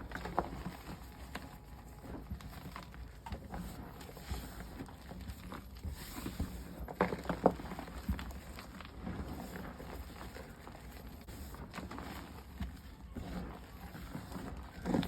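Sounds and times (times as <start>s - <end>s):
chalk crunching and crackling: 0.0s - 15.0s.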